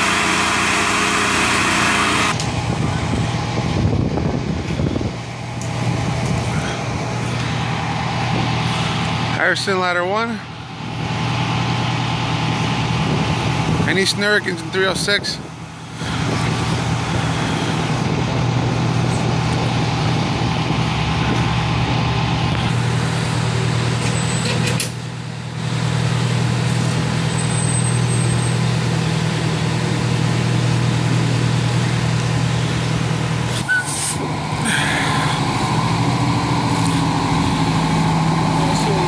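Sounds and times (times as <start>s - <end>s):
diesel engines humming: 0.0s - 39.0s
street noise: 0.0s - 39.0s.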